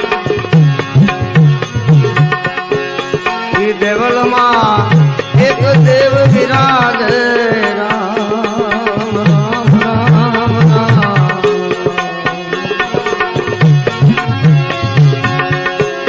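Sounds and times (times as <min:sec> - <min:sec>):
devotional music with tabla: 0:00.0 - 0:16.0.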